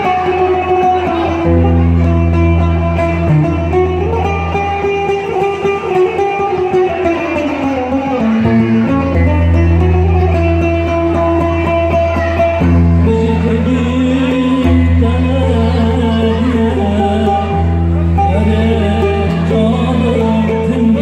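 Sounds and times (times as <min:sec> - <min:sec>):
held low bass notes: 0:00.0 - 0:05.2, 0:08.4 - 0:21.0
instrumental melody: 0:00.0 - 0:21.0.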